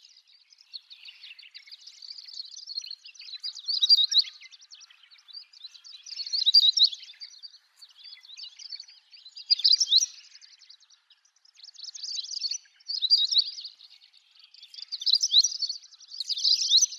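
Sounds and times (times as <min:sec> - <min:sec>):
bird twittering song: 0:00.0 - 0:16.9.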